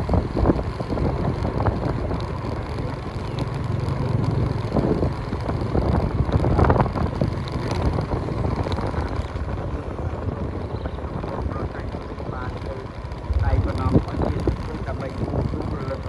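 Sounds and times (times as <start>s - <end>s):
boat motor rumbling: 0.0s - 16.0s
wind buffeting microphone: 0.0s - 16.0s.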